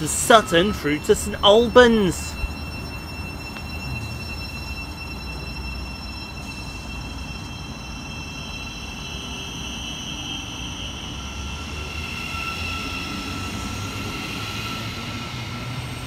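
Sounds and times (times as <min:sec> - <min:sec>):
electric train whine: 0:00.0 - 0:16.0.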